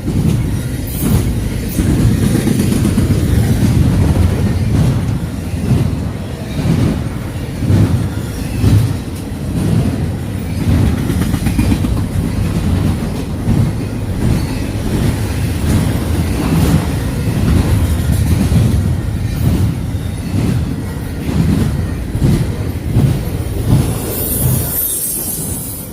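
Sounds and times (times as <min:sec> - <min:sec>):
train wheels clacking on rail joints: 0:00.0 - 0:25.7
freight train rumbling: 0:00.0 - 0:25.9.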